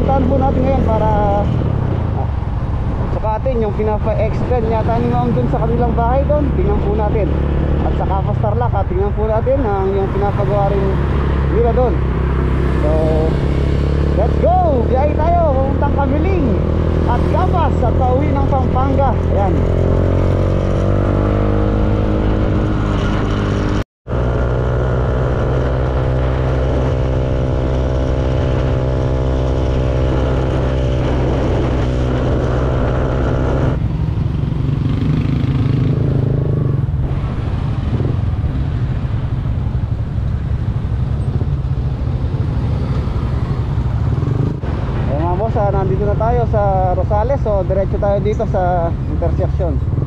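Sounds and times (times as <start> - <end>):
road and wind noise: 0.0 - 50.0.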